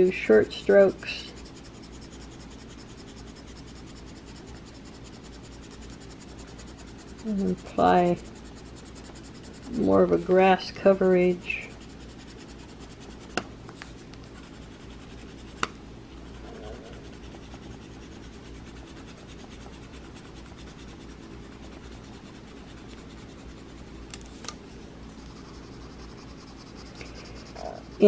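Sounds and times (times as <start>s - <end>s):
pencil scratching on paper: 0.0s - 13.4s, 14.2s - 24.0s, 24.7s - 28.0s
steady low hum: 0.0s - 28.0s.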